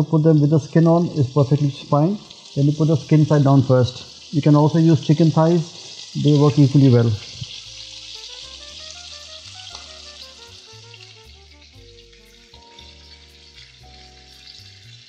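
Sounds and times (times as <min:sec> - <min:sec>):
chicken sizzling in hot oil: 0:00.0 - 0:15.0
soft background music: 0:00.0 - 0:15.0.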